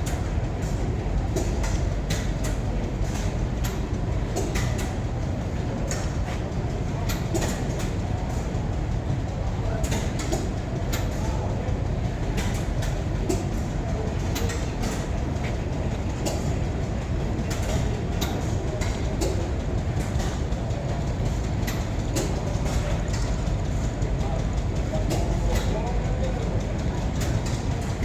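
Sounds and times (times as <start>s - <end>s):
heavy machine rumbling: 0.0s - 28.0s
sharp clicks and clanks: 0.0s - 28.0s.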